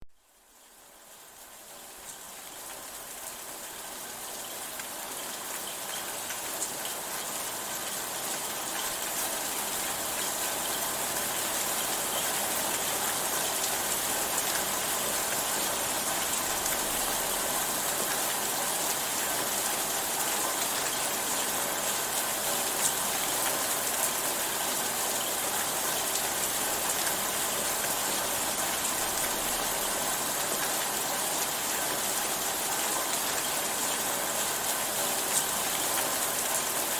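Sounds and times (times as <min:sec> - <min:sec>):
steady rain falling: 0:00.2 - 0:36.9.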